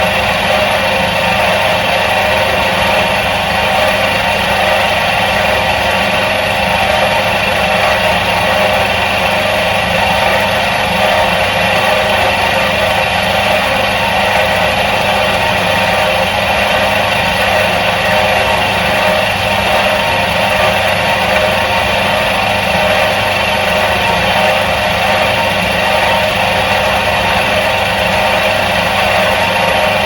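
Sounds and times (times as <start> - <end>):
washing machine motor humming: 0.0 - 30.0.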